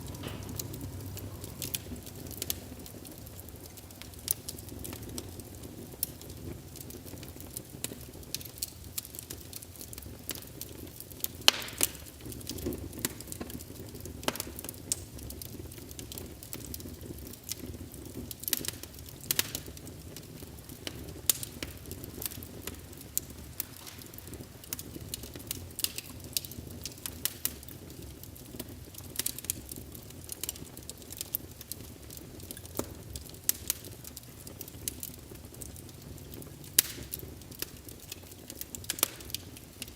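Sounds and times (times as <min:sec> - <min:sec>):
fireplace fire crackling: 0:00.0 - 0:39.9
low rumble of flames: 0:00.0 - 0:39.9.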